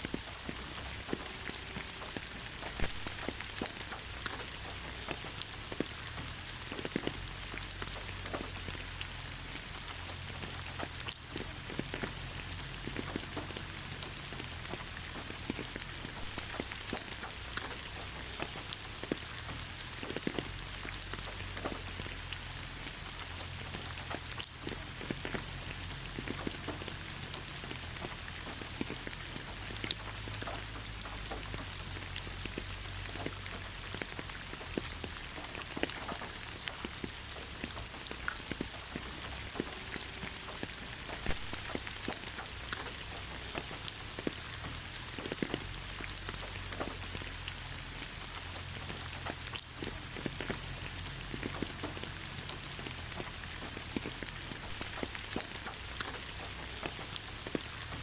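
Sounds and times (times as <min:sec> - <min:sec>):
raindrops ticking: 0:00.0 - 0:58.0
steady rain hiss: 0:00.0 - 0:58.0.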